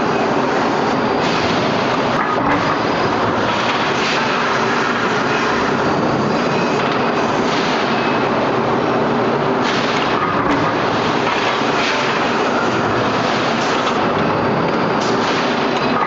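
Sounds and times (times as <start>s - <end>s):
factory machinery din: 0.0s - 16.0s.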